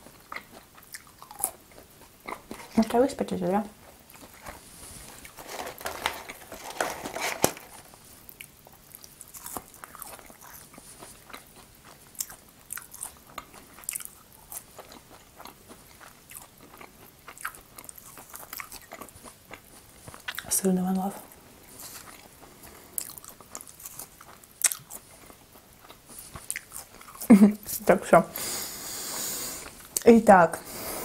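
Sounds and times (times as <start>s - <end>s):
eating and chewing: 0.0s - 31.0s.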